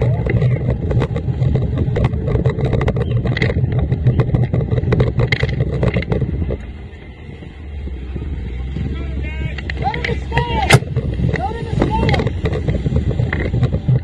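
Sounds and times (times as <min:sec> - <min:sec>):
outboard engine running hard: 0:00.0 - 0:14.0.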